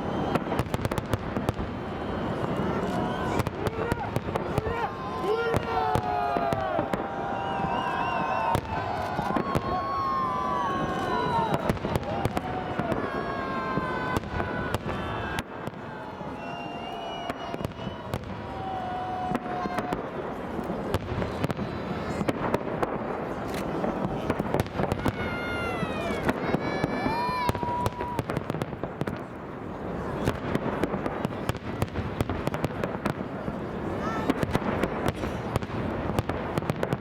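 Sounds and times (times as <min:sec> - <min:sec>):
crowd voices and shouts: 0:00.0 - 0:37.0
fireworks bangs and cracks: 0:00.0 - 0:37.0.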